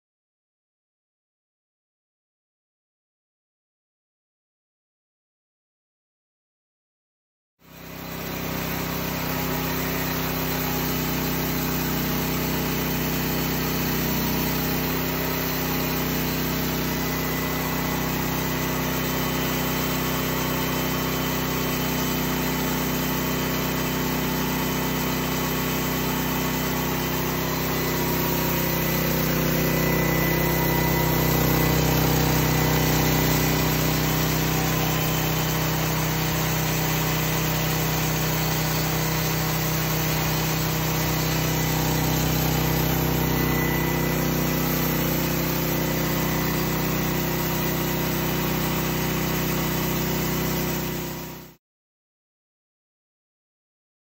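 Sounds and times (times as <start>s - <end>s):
sawmill engine running: 7.6s - 51.5s.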